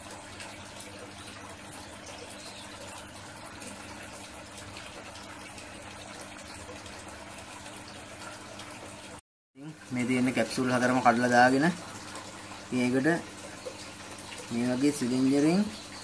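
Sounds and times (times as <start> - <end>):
running water splashing: 0.0 - 16.0.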